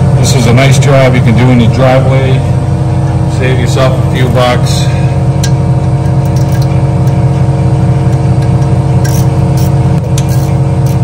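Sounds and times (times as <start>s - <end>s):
loud motor drone: 0.0s - 11.0s.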